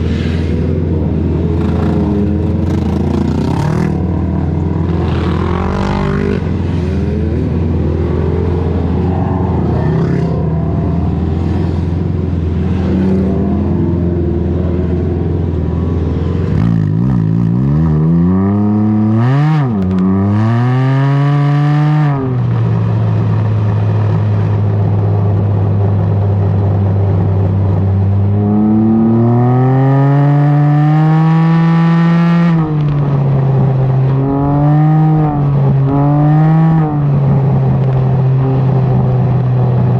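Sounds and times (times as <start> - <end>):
motorcycle engine revving: 0.0 - 22.9, 27.7 - 39.9.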